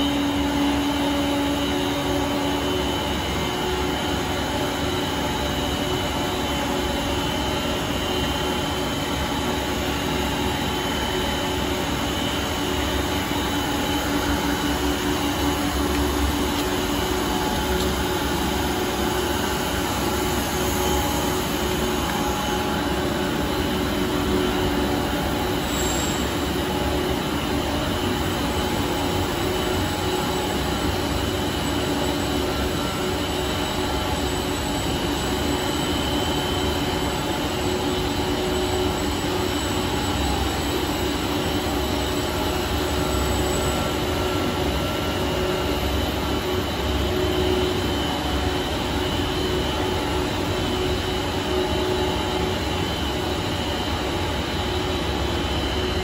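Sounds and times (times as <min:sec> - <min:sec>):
industrial machinery hum: 0:00.0 - 0:56.0.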